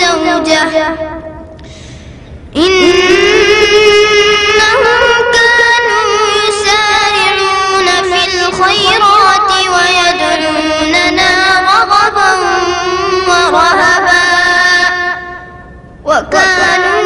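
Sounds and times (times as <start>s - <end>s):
boy reciting melodically: 0.0s - 1.6s, 2.5s - 17.0s.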